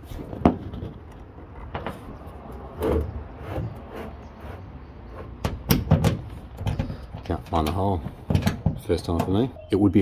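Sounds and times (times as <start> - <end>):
plastic board scraping on metal roof: 0.0 - 8.8.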